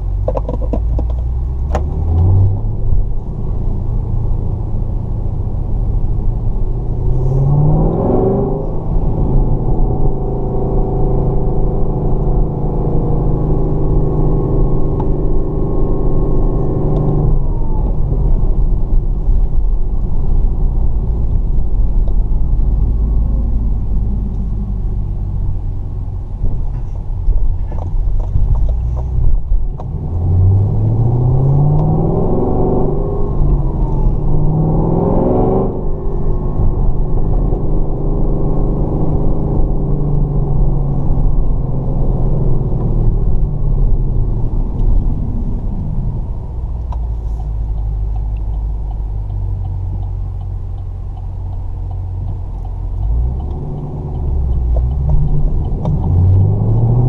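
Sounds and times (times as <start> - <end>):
car engine while driving: 0.0 - 57.0.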